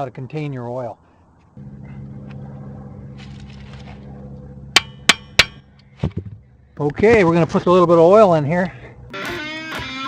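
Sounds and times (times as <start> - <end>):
low mechanical hum: 1.0 - 9.2.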